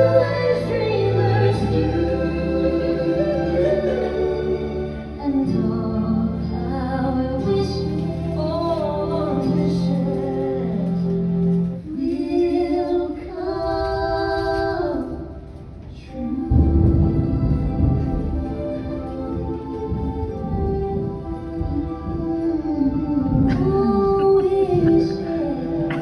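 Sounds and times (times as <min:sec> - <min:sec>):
music with singing: 0:00.0 - 0:26.0.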